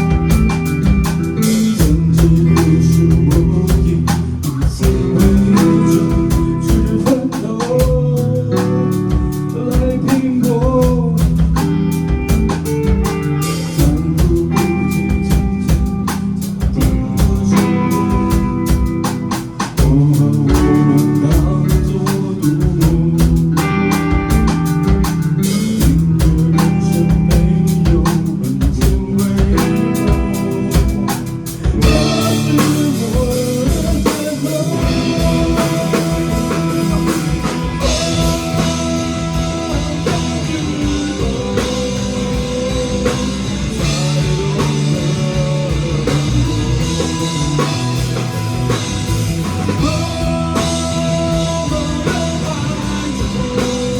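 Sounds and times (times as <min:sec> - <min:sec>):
drum kit: 0:00.0 - 0:53.9
electric guitar: 0:00.0 - 0:53.9.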